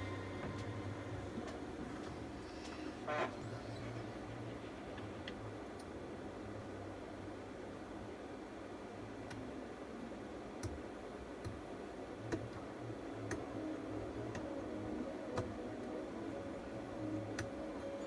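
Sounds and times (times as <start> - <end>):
low equipment hum: 0.0 - 18.0.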